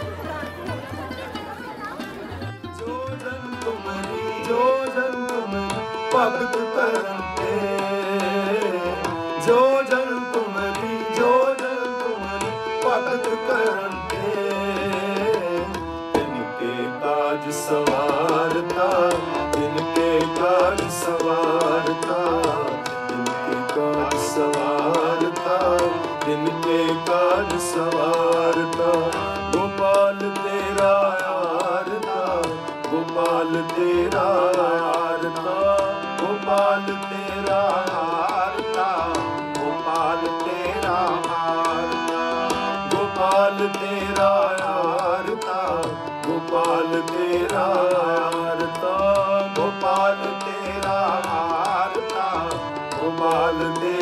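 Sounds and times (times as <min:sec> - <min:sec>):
harmonium: 0:00.0 - 0:54.0
tabla beat: 0:00.0 - 0:54.0
hymn singing: 0:02.8 - 0:54.0.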